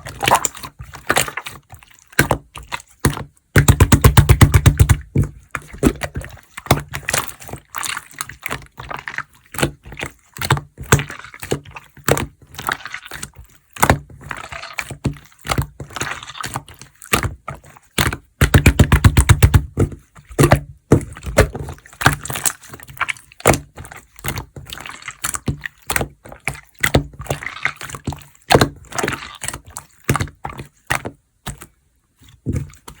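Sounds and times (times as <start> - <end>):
slime squished by hand: 0.0 - 33.0.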